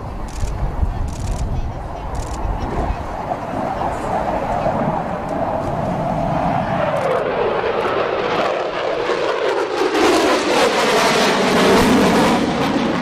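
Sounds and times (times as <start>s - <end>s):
jet engine crackle: 0.0s - 13.0s
jet engines roaring: 0.0s - 13.0s.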